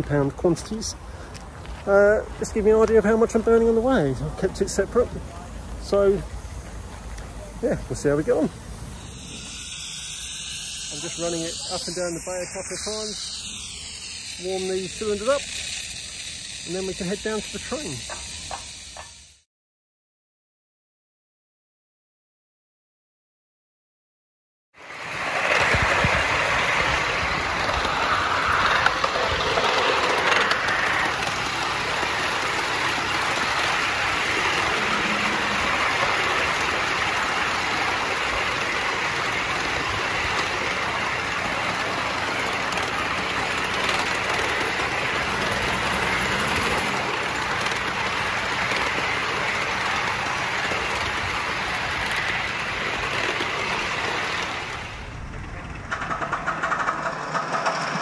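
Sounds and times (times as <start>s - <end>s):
model steam locomotive running: 0.0s - 19.4s, 24.8s - 58.0s.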